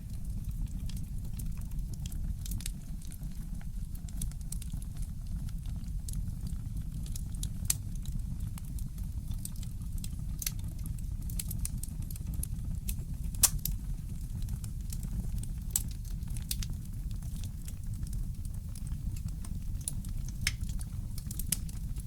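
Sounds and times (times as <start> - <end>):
fireplace crackling and popping: 0.0 - 22.0.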